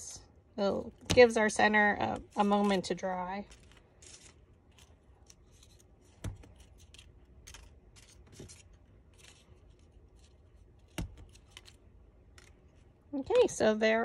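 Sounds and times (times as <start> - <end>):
paper rustling: 1.1 - 13.5.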